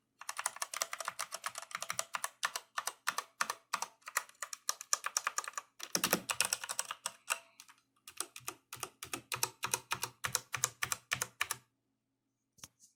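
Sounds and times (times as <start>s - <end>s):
mechanical keyboard typing: 0.2s - 11.6s.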